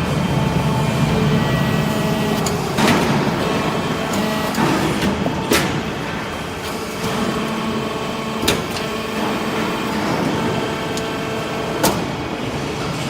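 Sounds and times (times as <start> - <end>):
hydraulic baler humming: 0.0 - 13.0.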